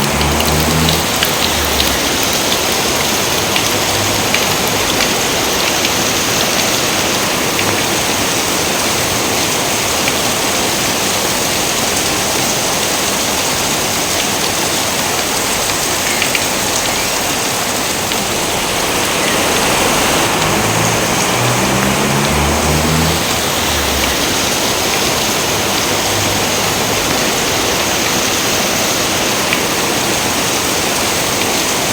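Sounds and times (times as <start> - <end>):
raindrop ticks: 0.0 - 31.9
steady rain hiss: 0.0 - 31.9.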